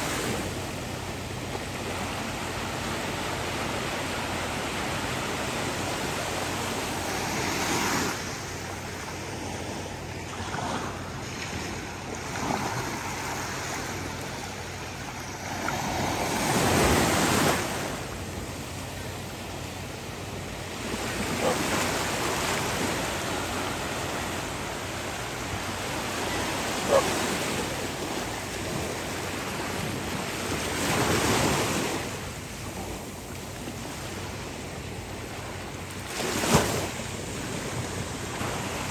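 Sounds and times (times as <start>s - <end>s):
waves breaking on beach: 0.0s - 38.9s.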